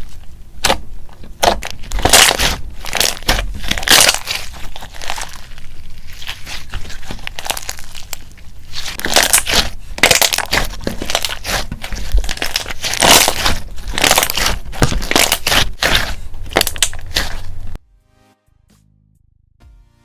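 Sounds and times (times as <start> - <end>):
slime crackling and popping: 0.0 - 17.8.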